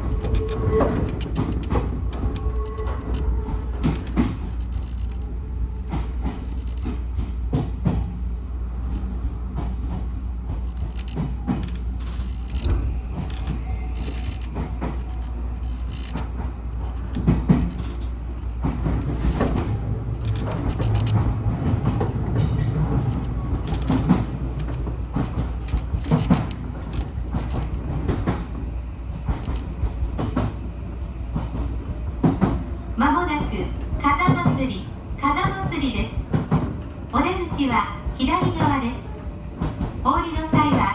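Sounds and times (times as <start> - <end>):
clicks and knocks from track: 0.0 - 8.2, 8.9 - 28.6, 29.2 - 30.6, 33.4 - 40.9
train wheels rumbling on rail: 0.0 - 40.9.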